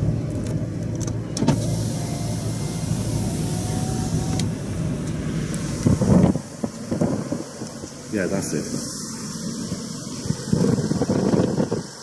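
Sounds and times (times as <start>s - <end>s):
van engine running: 0.0s - 12.0s.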